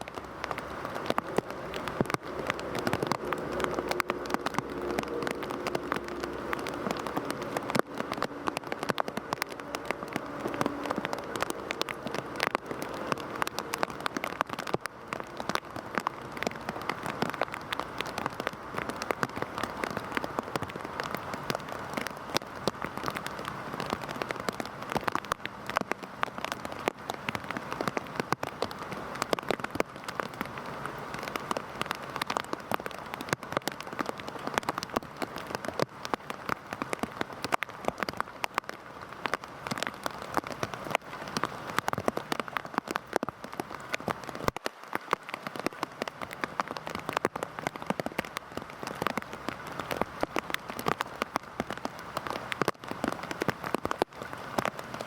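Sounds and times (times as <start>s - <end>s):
heavy rain patter: 0.0s - 55.0s.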